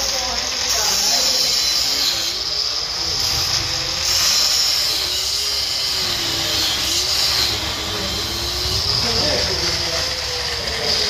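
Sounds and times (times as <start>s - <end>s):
power tool motor whine: 0.0s - 11.0s.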